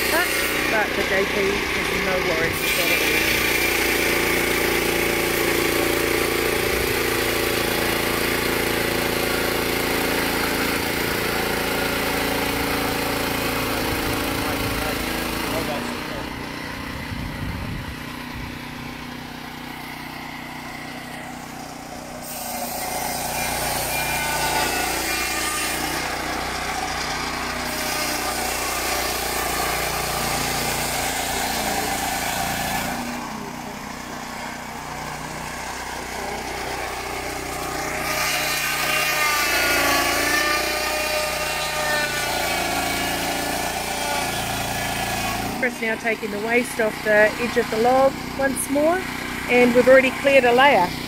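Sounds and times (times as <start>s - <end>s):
circular saw blade cutting log: 0.0s - 17.1s, 18.0s - 51.0s
sawmill engine running: 0.0s - 51.0s.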